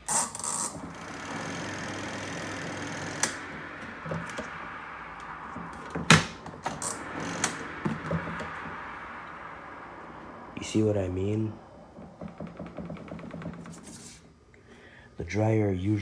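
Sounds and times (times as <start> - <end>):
spin dryer whirring: 0.0 - 14.0.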